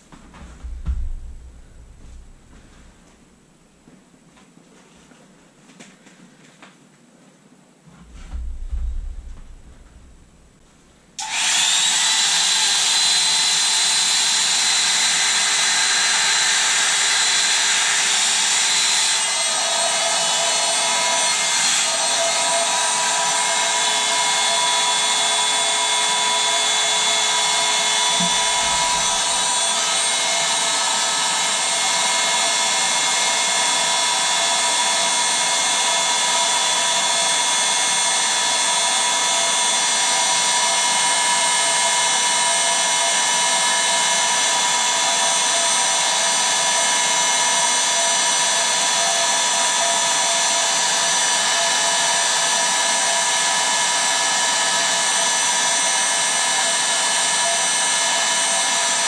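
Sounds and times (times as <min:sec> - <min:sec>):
electric air pump whining: 0:08.0 - 0:59.0.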